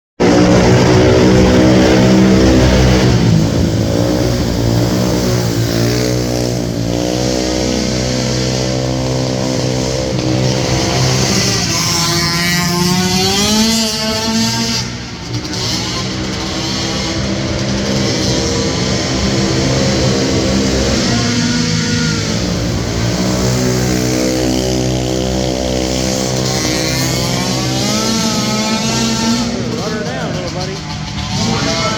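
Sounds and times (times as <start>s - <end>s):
atv engines revving: 0.2s - 31.9s
higher-pitched engine: 0.2s - 31.9s.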